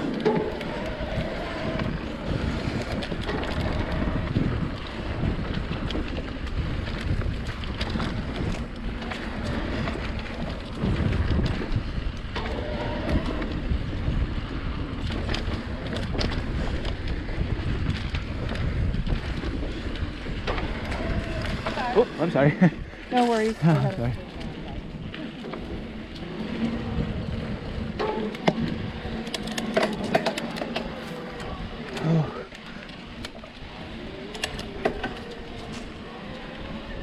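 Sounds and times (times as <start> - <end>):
bike rolling rumble: 0.0 - 37.0
wind buffeting microphone: 0.0 - 37.0.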